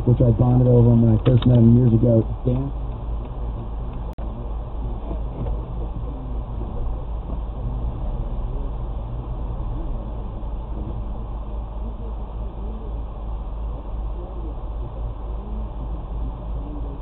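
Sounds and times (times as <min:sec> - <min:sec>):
car rumbling on the move: 0:00.0 - 0:17.0.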